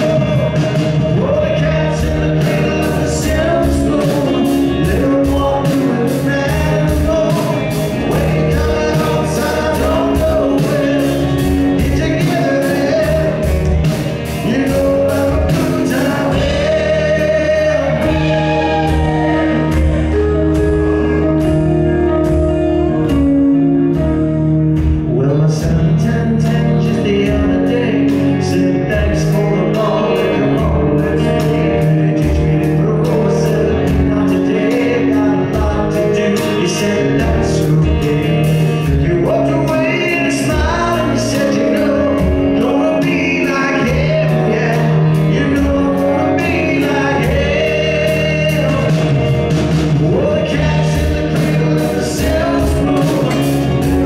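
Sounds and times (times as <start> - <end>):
man singing lead vocal: 0.0 - 23.2, 23.9 - 54.0
live rock band playing: 0.0 - 54.0.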